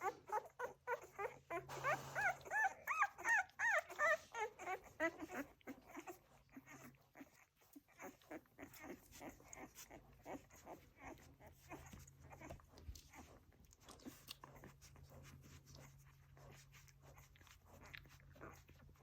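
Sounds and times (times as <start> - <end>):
puppies suckling: 0.0 - 19.0.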